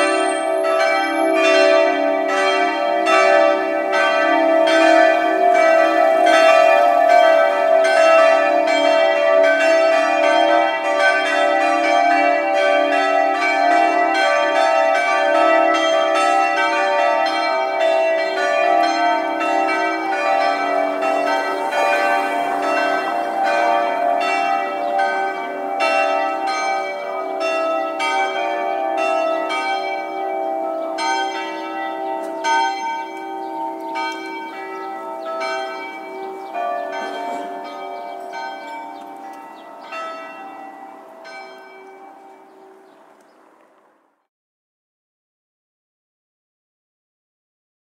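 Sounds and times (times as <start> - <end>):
church bells ringing: 0.0 - 43.8.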